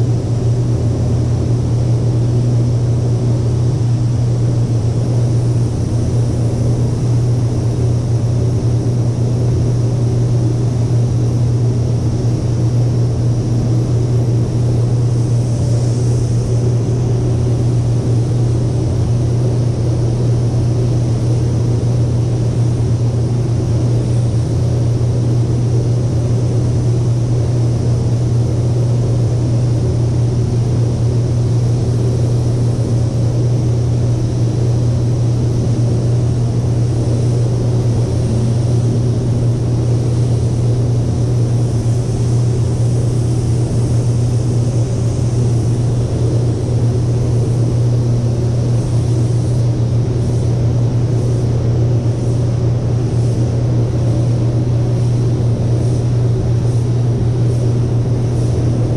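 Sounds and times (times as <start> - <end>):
ventilation fans rumbling: 0.0 - 58.9.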